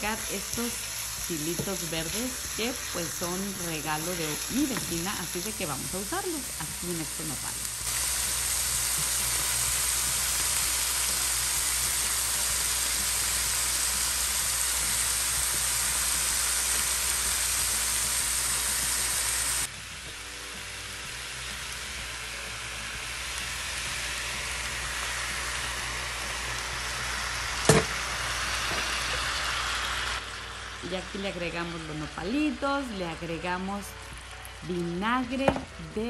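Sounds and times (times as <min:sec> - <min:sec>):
vegetables sizzling in oil: 0:00.0 - 0:36.0.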